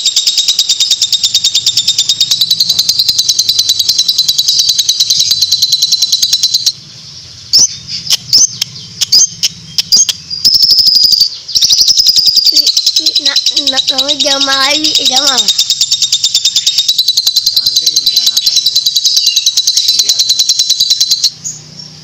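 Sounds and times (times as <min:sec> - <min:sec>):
bird chattering trill: 0:00.0 - 0:22.0
bird short upswept chirps: 0:00.0 - 0:22.0.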